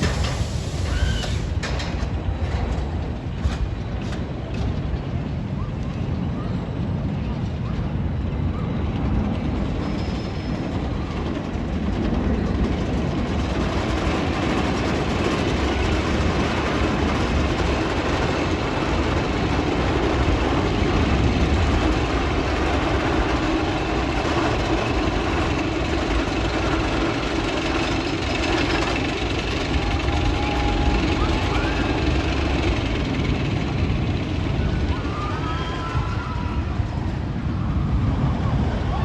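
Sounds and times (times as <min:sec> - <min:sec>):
roller coaster rumbling on track: 0:00.0 - 0:39.0.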